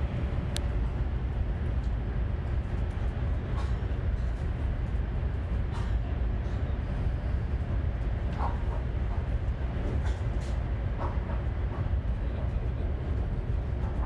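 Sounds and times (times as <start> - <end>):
train rumble inside cabin: 0.0 - 14.0.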